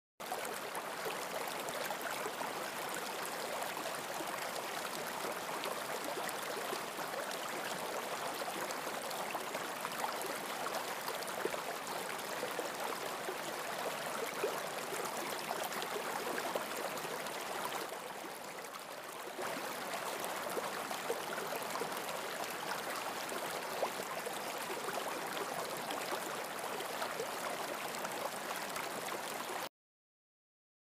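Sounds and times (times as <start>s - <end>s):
stream babbling and trickling: 0.2s - 29.7s.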